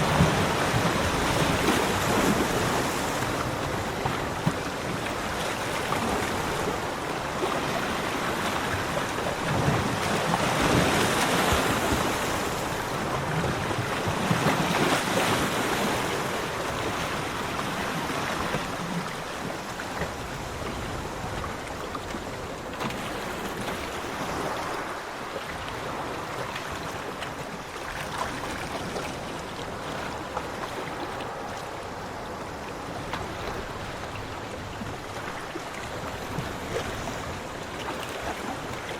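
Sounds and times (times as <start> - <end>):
sea waves washing onto beach: 0.0 - 38.9.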